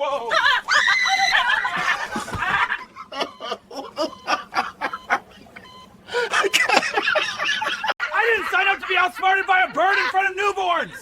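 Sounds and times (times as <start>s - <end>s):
person laughing hard: 0.0s - 10.2s.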